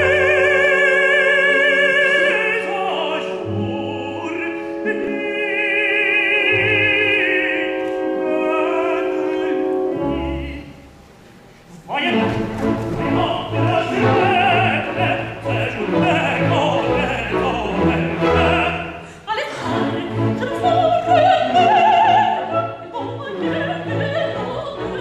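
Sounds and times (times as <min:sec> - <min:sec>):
operatic singing with vibrato: 0:00.0 - 0:25.0
theatre orchestra: 0:00.0 - 0:25.0.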